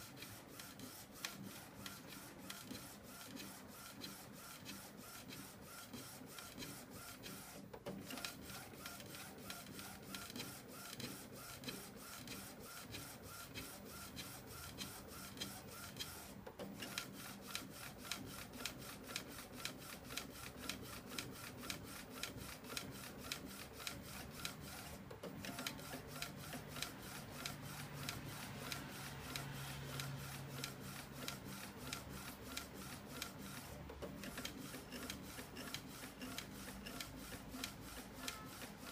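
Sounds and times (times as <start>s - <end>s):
low printer hum: 0.0s - 38.9s.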